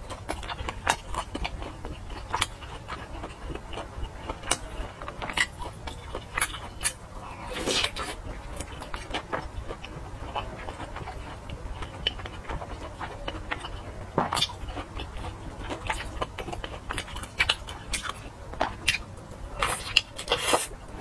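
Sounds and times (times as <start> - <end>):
biting sausage: 0.0 - 21.0
wet chewing and lip smacks: 0.0 - 21.0.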